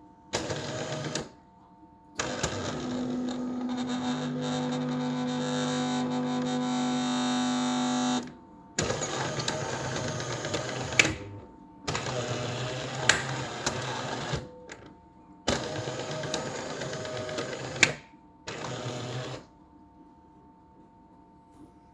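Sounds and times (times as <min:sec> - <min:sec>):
coffee machine mechanism running: 0:00.4 - 0:01.3, 0:02.2 - 0:14.9, 0:15.5 - 0:19.5.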